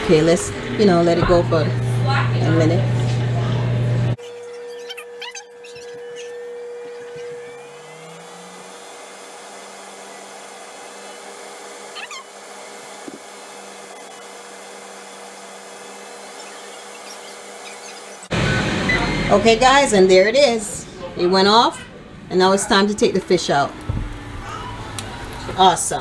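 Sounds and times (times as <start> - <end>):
fan whirring: 0.0 - 26.0.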